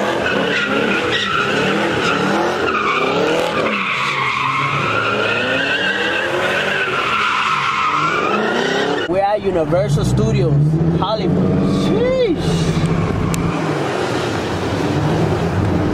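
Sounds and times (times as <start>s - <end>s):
car engine revving: 0.0s - 15.9s
tires squealing: 0.0s - 15.9s.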